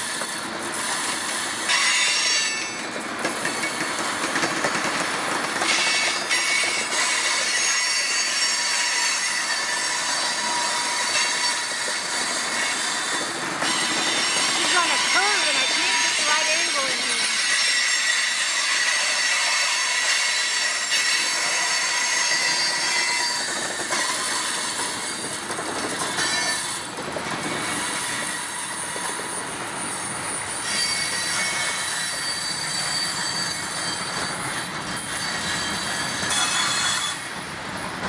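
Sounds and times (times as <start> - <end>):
steel wheels squealing on rails: 0.0 - 38.0.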